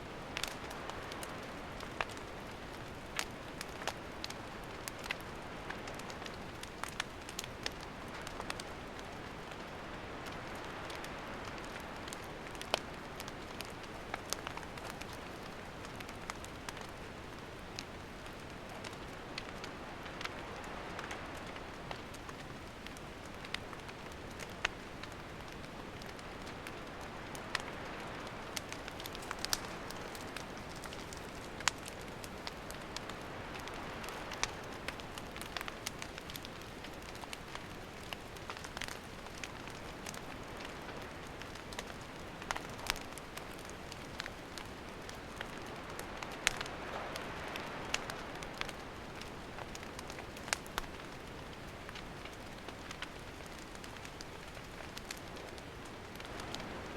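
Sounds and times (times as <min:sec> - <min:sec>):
campfire hissing: 0:00.0 - 0:56.9
fire crackling and popping: 0:00.0 - 0:56.9.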